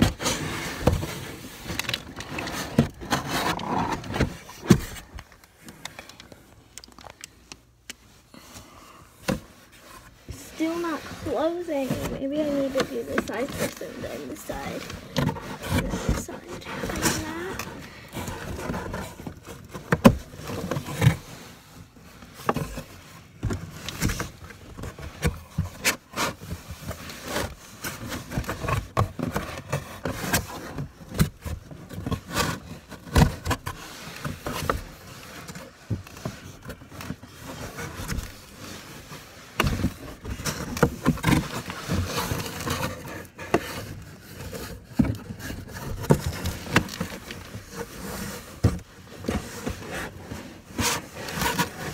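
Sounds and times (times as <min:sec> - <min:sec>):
cardboard flaps scraping and rustling: 0:00.0 - 0:06.5, 0:08.3 - 0:51.9.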